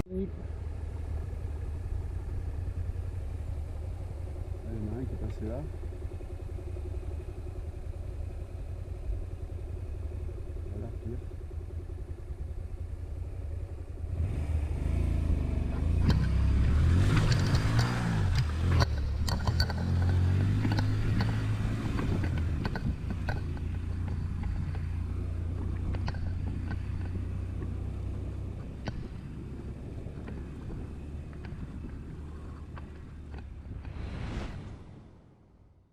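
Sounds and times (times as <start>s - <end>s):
motorcycle engine revving: 0.0s - 34.4s.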